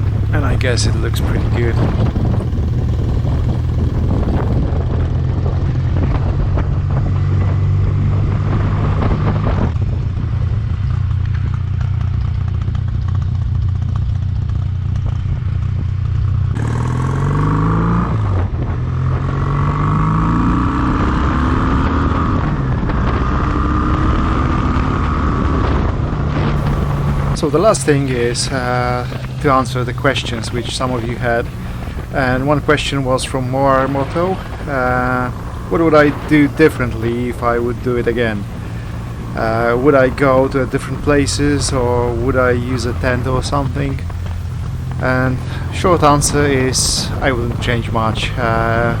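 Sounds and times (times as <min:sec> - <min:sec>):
wind rush: 0:00.0 - 0:11.8, 0:15.0 - 0:49.0
motorcycle engine running: 0:00.0 - 0:49.0.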